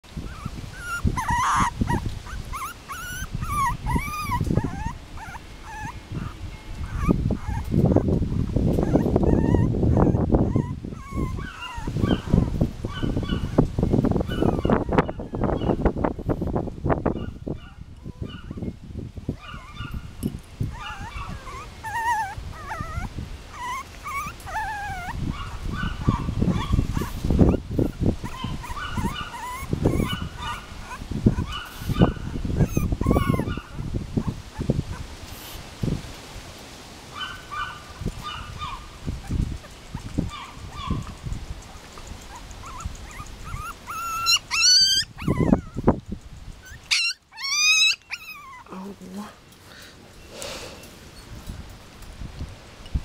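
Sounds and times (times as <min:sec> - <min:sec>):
puppies whimpering and squeaking: 0:00.1 - 0:15.9, 0:17.2 - 0:18.7, 0:19.4 - 0:35.6, 0:37.2 - 0:49.2.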